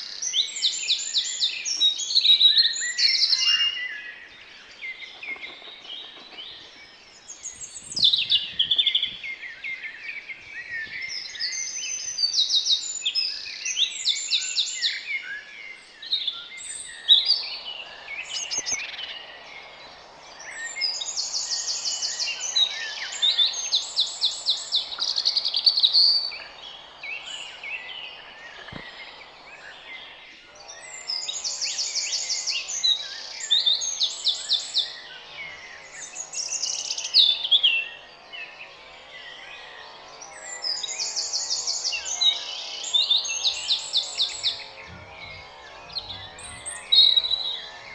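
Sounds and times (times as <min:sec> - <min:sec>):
birds singing and chirping: 0:00.0 - 0:47.9.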